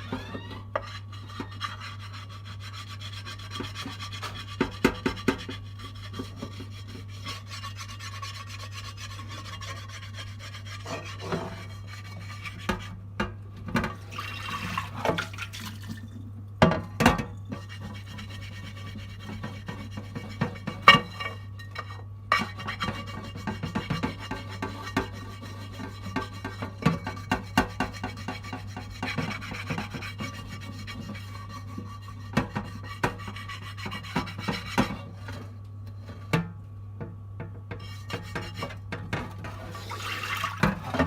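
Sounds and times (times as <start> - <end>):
scrubbing a pan: 0.0 - 13.0, 13.6 - 16.0, 17.1 - 36.4, 37.7 - 41.0.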